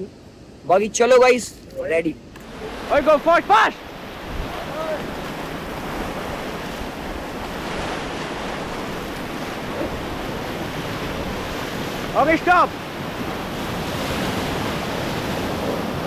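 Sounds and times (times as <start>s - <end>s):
river water rushing: 0.4s - 16.0s
wind buffeting microphone: 1.8s - 16.0s.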